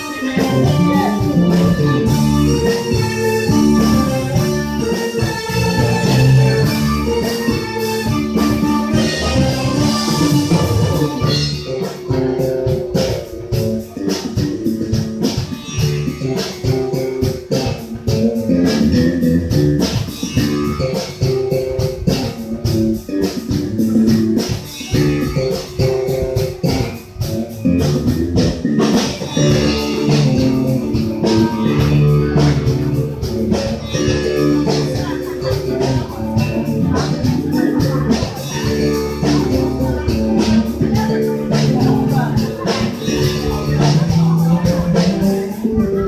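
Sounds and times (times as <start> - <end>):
bass: 0.0 - 46.0
drums: 0.0 - 46.0
electric guitars: 0.0 - 46.0.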